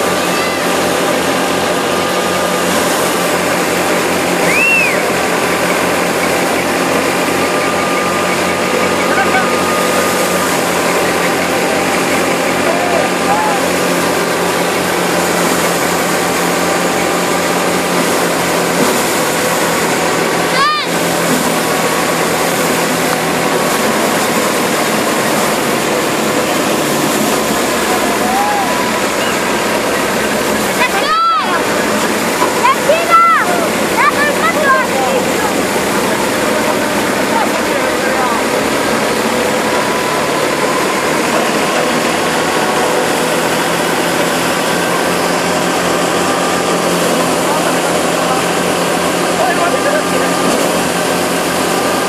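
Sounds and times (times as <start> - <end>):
threshing machine droning: 0.0 - 52.0.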